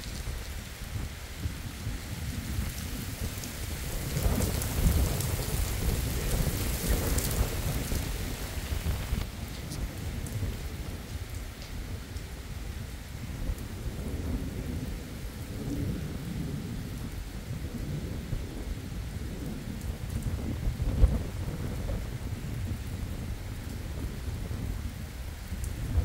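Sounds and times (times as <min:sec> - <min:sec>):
rain on asphalt road: 0:00.0 - 0:26.0
thunder rumbling: 0:00.0 - 0:26.0.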